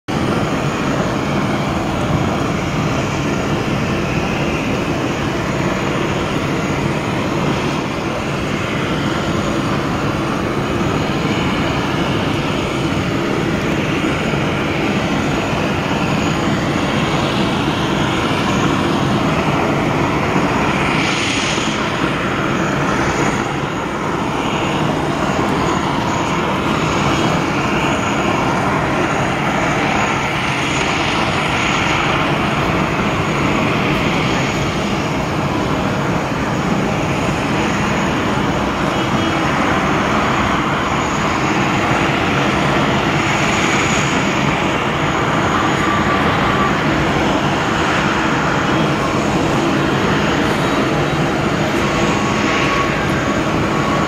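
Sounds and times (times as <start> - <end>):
jet engine noise: 0.0 - 54.0.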